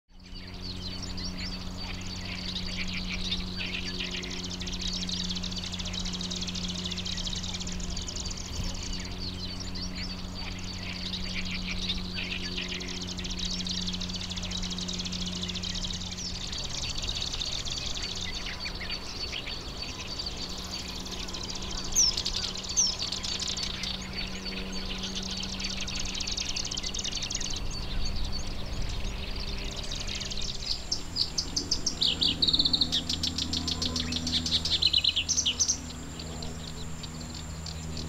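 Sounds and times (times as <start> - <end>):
steady low hum: 0.1 - 38.0
warbler singing scratchy chatter: 0.1 - 38.0.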